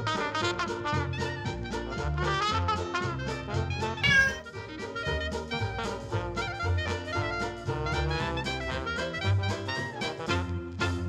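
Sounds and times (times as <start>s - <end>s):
swing jazz with brass: 0.0s - 11.0s.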